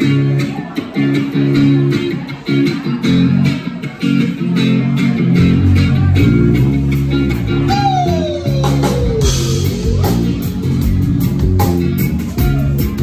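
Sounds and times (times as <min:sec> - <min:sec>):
bass guitar: 0:00.0 - 0:13.0
electric guitar riff: 0:00.0 - 0:13.0.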